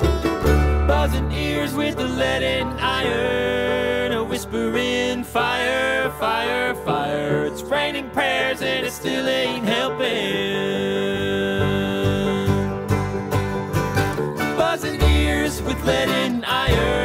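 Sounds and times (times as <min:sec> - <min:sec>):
bluegrass band playing: 0:00.0 - 0:17.0
harmony vocals singing: 0:00.7 - 0:12.7, 0:14.4 - 0:17.0.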